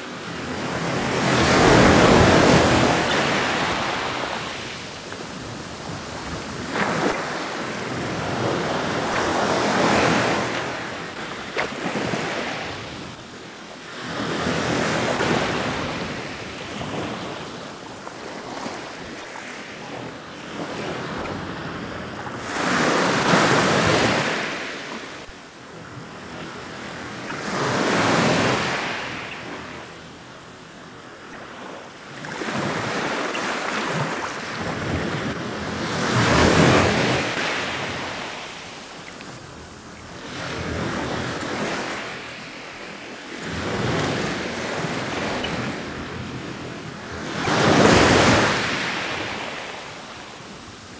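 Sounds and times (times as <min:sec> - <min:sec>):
ocean waves washing ashore: 0:00.0 - 0:50.9.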